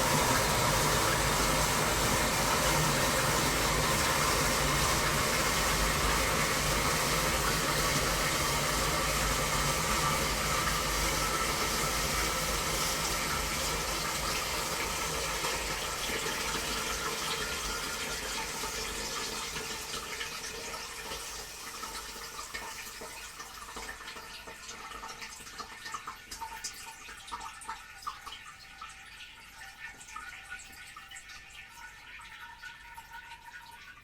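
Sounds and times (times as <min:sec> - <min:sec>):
toilet water rushing: 0:00.0 - 0:34.0
water trickling and dripping: 0:00.0 - 0:34.0.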